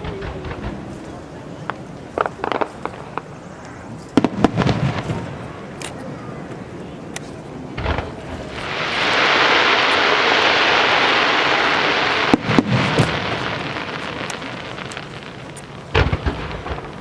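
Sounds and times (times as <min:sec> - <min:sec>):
firework bangs: 0:00.0 - 0:03.4, 0:04.1 - 0:05.8, 0:07.7 - 0:17.0
fireworks crackling hiss: 0:00.0 - 0:17.0.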